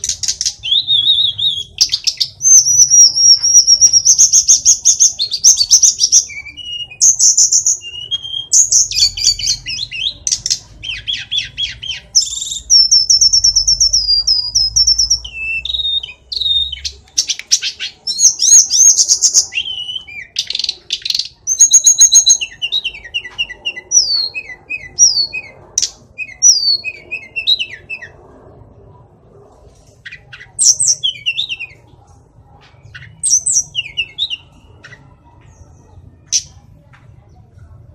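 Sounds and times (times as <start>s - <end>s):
bird singing whistles and trills: 0.0s - 28.4s, 30.0s - 36.6s.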